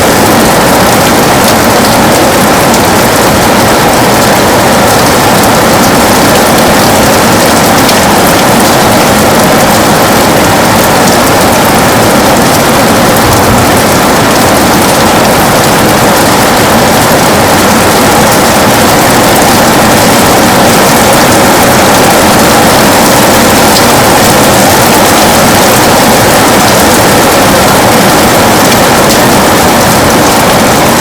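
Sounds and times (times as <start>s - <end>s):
heavy rain on a window: 0.0s - 31.0s.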